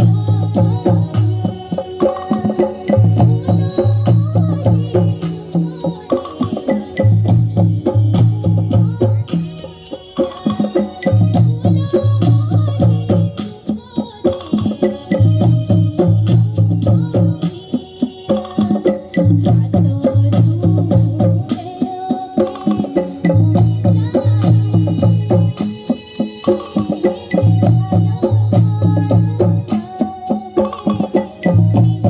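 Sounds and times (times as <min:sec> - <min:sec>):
folk music with hand drum: 0:00.0 - 0:32.0.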